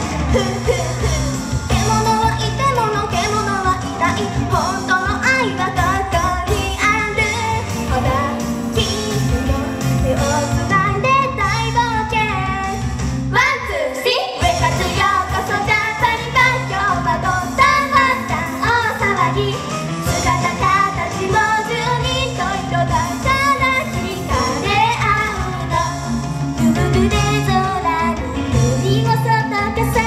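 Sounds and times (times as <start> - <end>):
women singing into microphones: 0.0 - 11.2, 13.5 - 30.0
upbeat pop backing track: 0.0 - 30.0.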